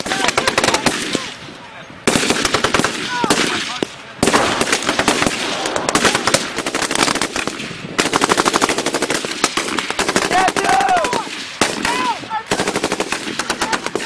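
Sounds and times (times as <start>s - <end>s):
automatic gunfire bursts: 0.0s - 1.2s, 2.1s - 14.0s
rifle shots: 2.0s - 14.0s.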